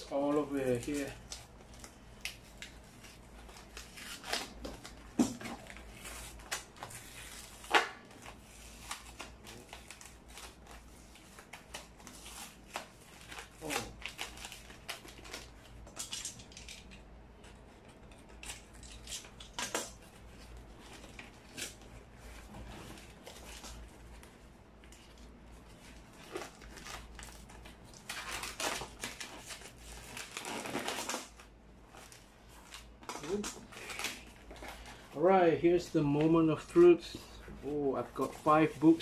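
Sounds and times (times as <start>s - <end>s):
packing tape peeling and tearing: 0.0s - 22.4s, 23.0s - 34.8s.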